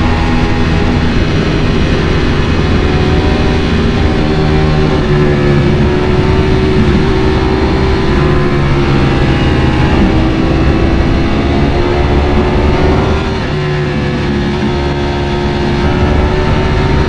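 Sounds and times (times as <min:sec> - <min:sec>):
dense rushing noise: 0:00.0 - 0:17.0
motorcycle engine at high revs: 0:00.0 - 0:17.0.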